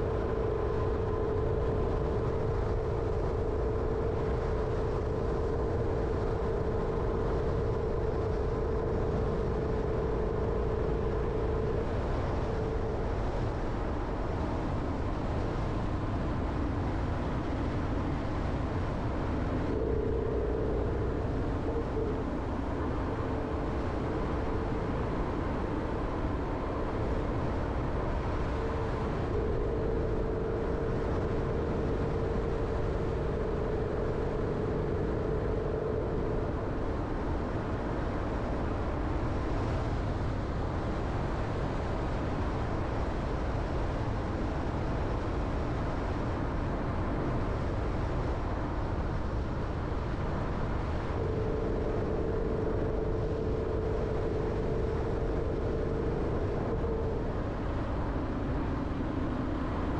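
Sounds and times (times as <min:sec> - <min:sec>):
car engine and tyre noise: 0:00.0 - 0:59.9
constant hum: 0:00.0 - 0:59.9.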